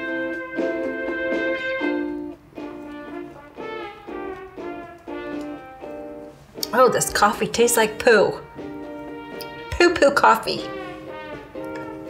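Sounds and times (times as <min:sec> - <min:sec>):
brass melody: 0:00.0 - 0:06.6, 0:07.2 - 0:12.0.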